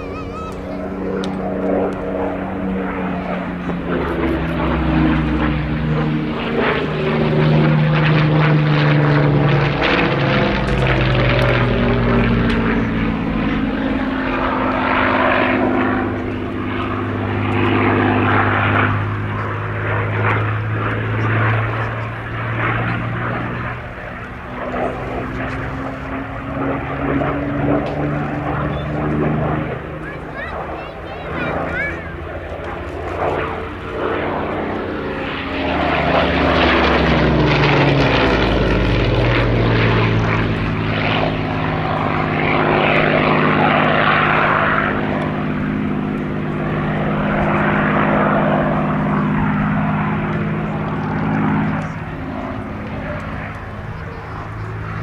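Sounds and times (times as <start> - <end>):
propeller plane engine passing: 0.0 - 55.0.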